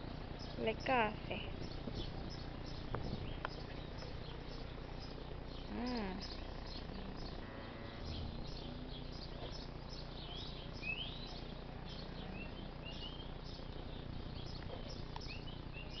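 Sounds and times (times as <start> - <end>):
low background rumble: 0.0 - 16.0
small birds chirping: 0.0 - 16.0
bird rising calls: 0.4 - 16.0.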